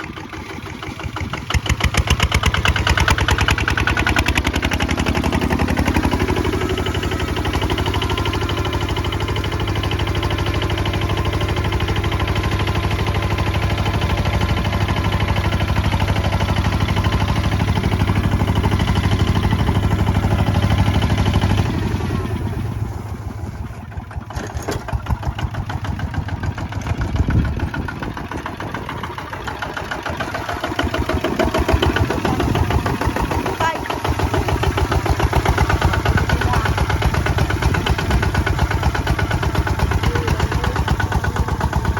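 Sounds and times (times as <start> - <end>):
diesel engine on walking tractor: 0.0 - 41.9.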